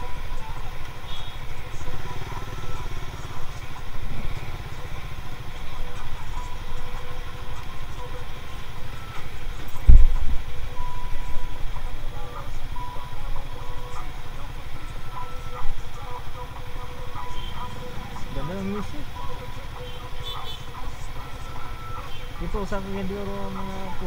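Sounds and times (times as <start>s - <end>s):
motorcycle engine running: 0.0s - 24.0s
road and wind rumble: 0.0s - 24.0s.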